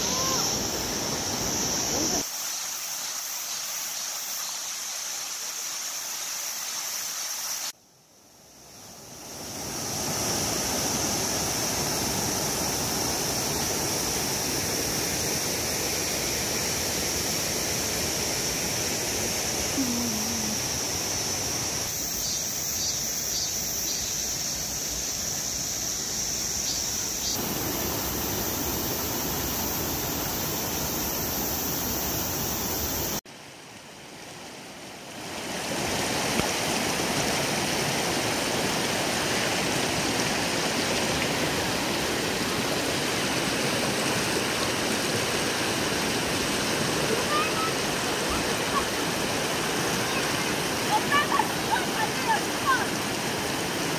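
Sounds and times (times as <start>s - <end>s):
stream rushing over boulders: 0.0s - 7.8s, 8.6s - 22.0s, 24.0s - 53.9s
cicadas droning: 0.0s - 53.9s.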